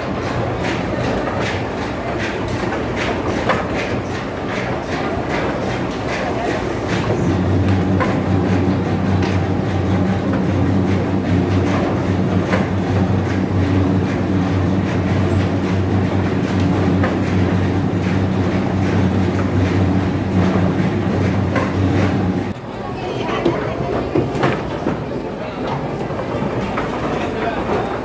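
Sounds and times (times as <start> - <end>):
factory machinery hum and rattle: 0.0 - 28.0.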